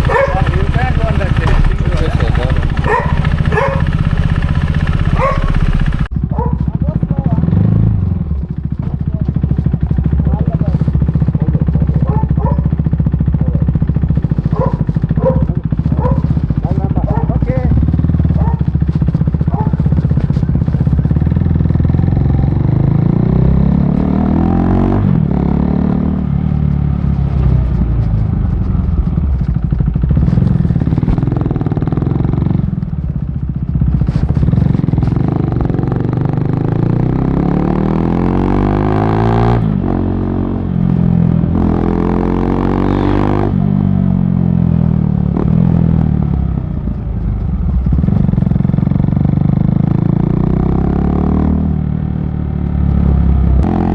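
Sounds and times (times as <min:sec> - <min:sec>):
motorcycle engine revving through gears: 0:00.0 - 0:53.9.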